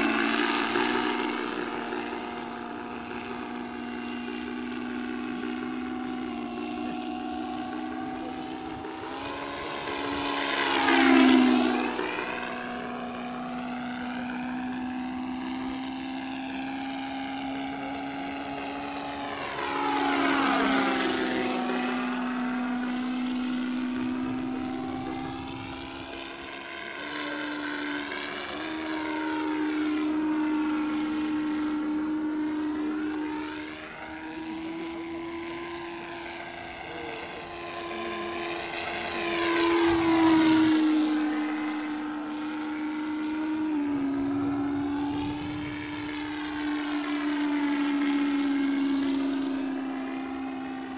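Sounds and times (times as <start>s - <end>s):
distorted simulated aircraft engine: 0.0s - 50.9s.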